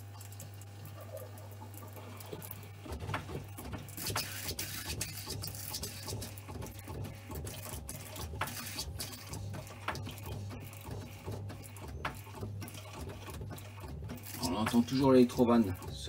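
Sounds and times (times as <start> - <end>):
valve humming: 0.0 - 16.0.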